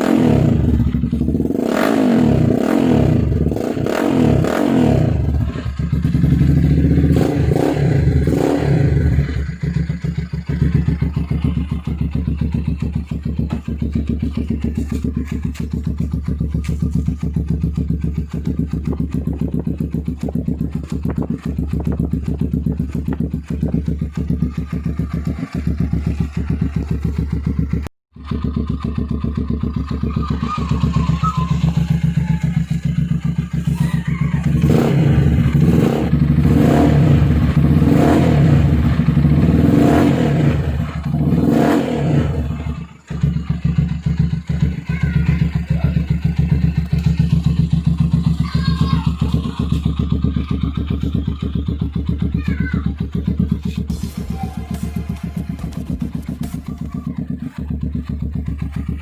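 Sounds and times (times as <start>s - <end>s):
motorcycle idling and revving: 0.0s - 59.0s.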